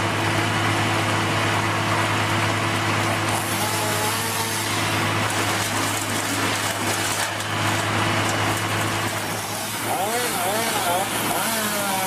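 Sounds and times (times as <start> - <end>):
heavy machine engine running: 0.0 - 12.0.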